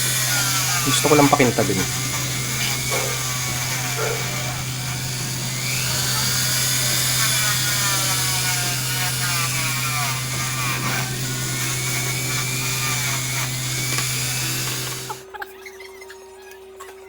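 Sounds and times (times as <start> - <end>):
electric power tool polishing: 0.0 - 15.2.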